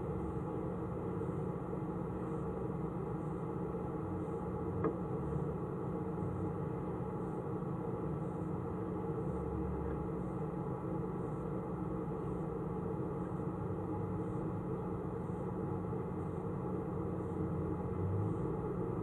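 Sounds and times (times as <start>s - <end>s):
muffled machine hum with hiss: 0.0s - 19.0s.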